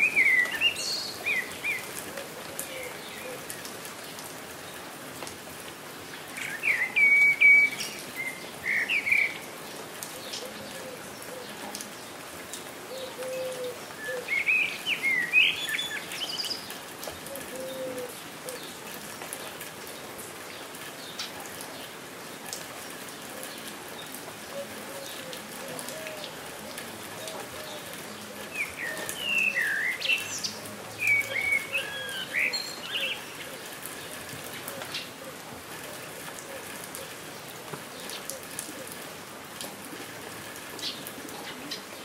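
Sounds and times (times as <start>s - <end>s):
songbirds chirping: 0.0s - 42.0s
steady rain falling: 0.0s - 42.0s.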